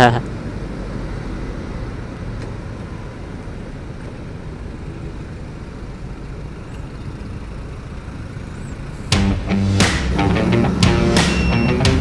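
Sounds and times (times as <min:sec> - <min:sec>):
low rumble of traffic engines: 0:00.0 - 0:12.0.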